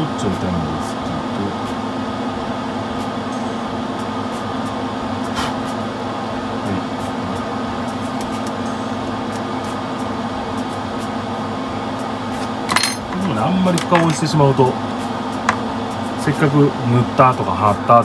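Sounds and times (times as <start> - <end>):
exhaust fan humming: 0.0 - 18.0.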